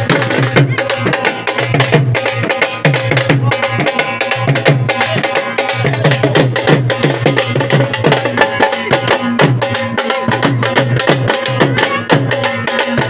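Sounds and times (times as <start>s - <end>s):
drums beaten with sticks: 0.0s - 13.0s.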